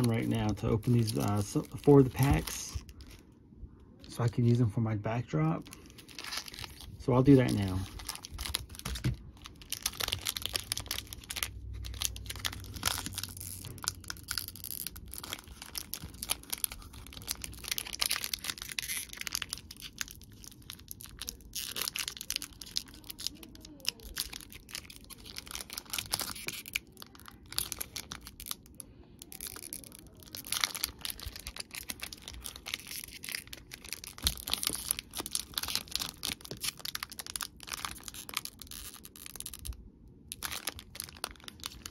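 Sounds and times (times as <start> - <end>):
foil wrappers crinkling and tearing: 0.0 - 3.2, 4.0 - 41.9.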